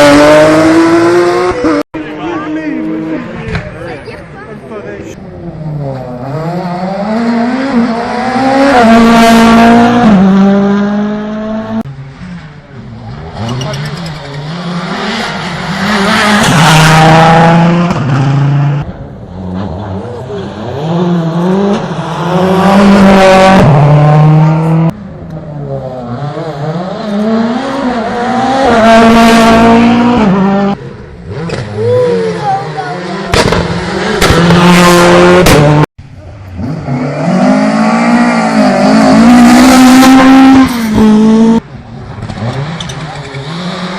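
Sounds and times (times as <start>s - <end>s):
car engine at high revs passing: 0.0s - 3.8s, 4.8s - 43.9s.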